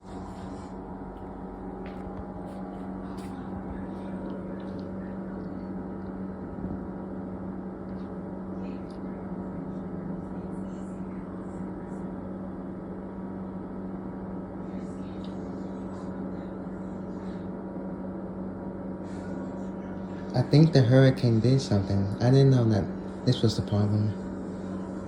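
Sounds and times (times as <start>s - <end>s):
refrigerator electrical hum: 0.0s - 25.0s.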